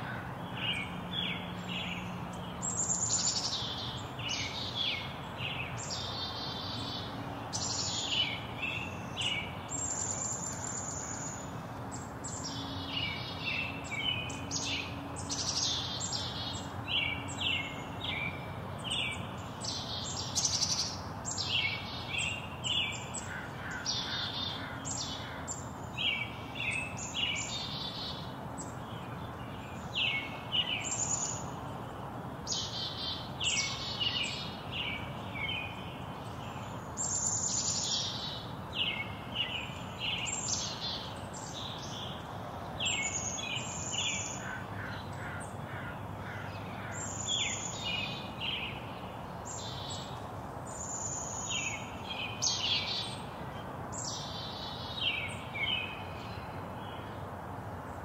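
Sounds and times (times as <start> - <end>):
songbirds chirping and twittering: 0.0 - 58.0
steady low hiss: 0.0 - 58.0.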